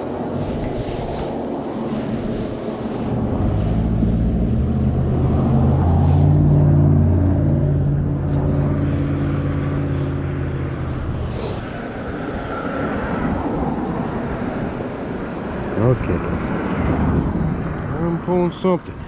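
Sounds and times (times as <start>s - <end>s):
vehicle engine drone passing: 0.0s - 19.0s.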